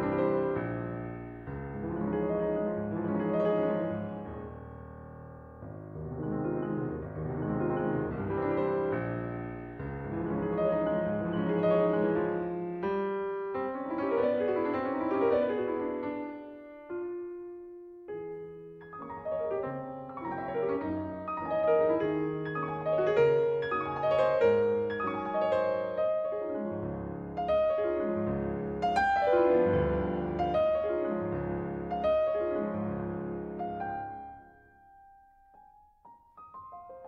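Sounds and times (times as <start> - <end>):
calm piano music: 0.0 - 37.0.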